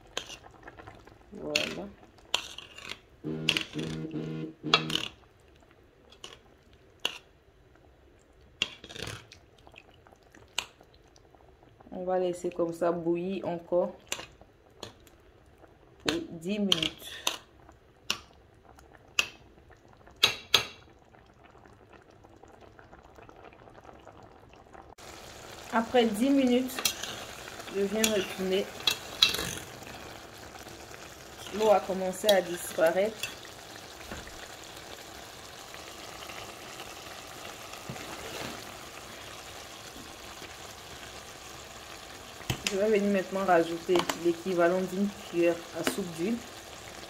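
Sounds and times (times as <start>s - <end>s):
stew bubbling in a pot: 0.0s - 47.0s.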